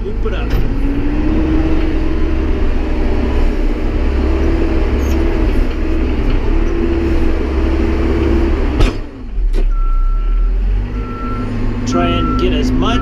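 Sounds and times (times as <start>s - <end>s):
backhoe engine running under load: 0.0s - 13.0s.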